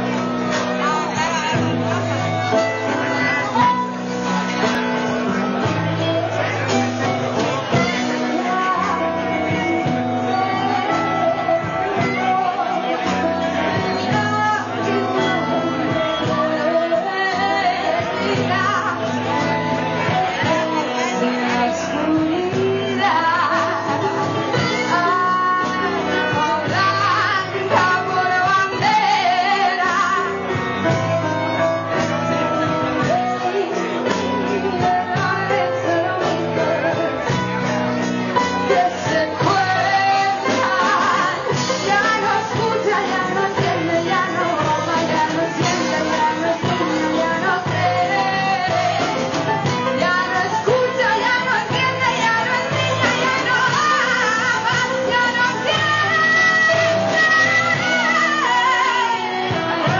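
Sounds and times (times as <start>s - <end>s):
live band playing: 0.0s - 59.9s
woman singing: 0.0s - 59.9s.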